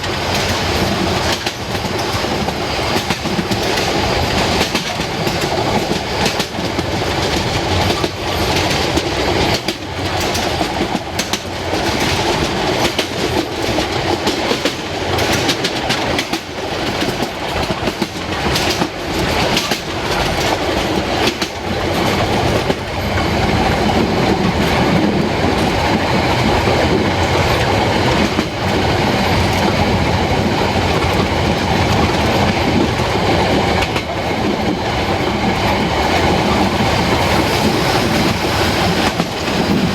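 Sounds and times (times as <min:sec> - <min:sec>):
train rumbling along rails: 0:00.0 - 0:39.9
wheels clicking over rail joints: 0:00.0 - 0:39.9.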